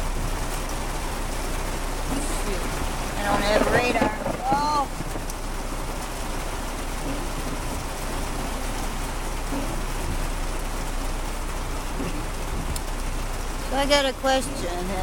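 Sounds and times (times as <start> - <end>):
heavy rain on car roof: 0.0 - 15.0.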